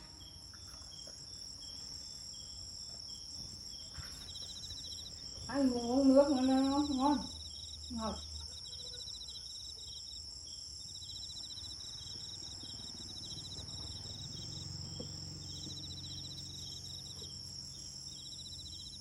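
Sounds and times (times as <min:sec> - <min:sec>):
high-pitched insect whine: 0:00.0 - 0:19.0
insects chirping in rapid trills: 0:00.0 - 0:19.0.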